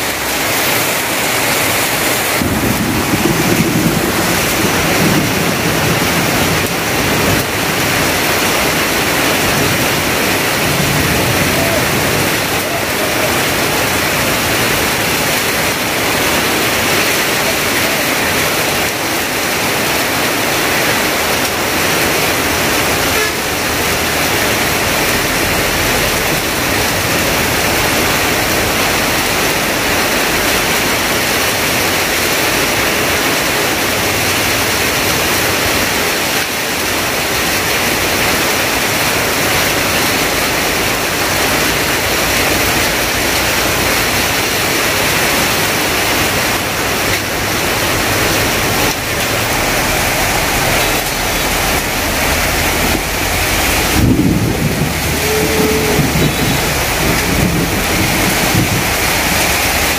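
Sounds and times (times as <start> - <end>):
heavy rain on tin roofs: 0.0 - 59.9.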